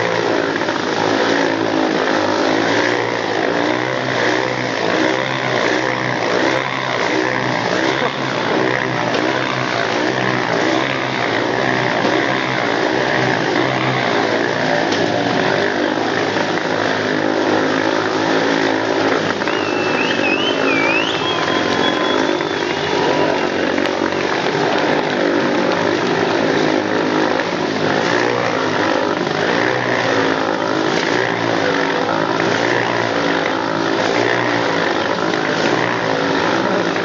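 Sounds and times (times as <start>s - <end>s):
dirt-bike engines revving: 0.0s - 37.0s.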